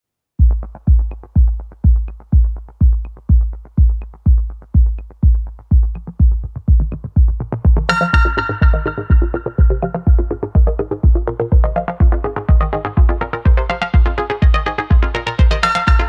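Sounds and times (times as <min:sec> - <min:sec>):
electronic dance music: 0:00.4 - 0:16.0
heavy kick drum: 0:00.4 - 0:16.0
light ticking percussion: 0:00.4 - 0:16.0.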